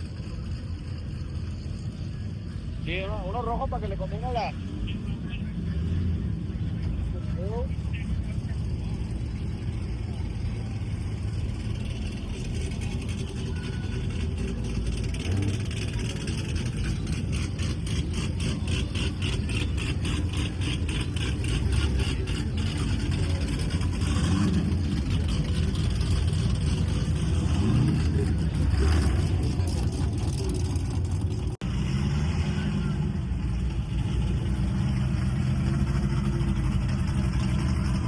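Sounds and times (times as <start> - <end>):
engines rumbling: 0.0 - 38.0.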